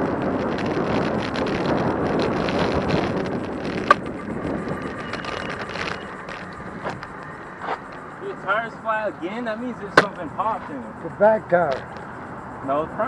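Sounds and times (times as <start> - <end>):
wind rushing over microphone: 0.0 - 10.6.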